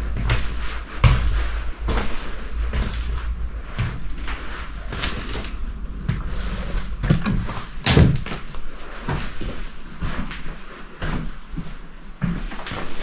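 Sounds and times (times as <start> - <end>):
footsteps on wooden floor: 0.0 - 13.0.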